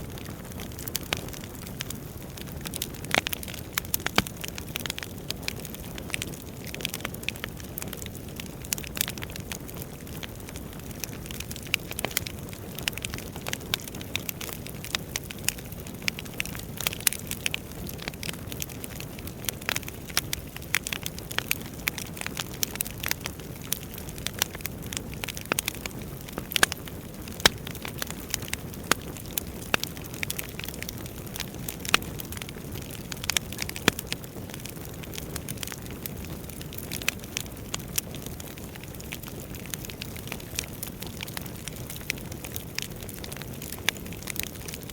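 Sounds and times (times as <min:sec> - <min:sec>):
burning logs crackling and popping: 0:00.0 - 0:44.9
flames rumbling: 0:00.1 - 0:44.9.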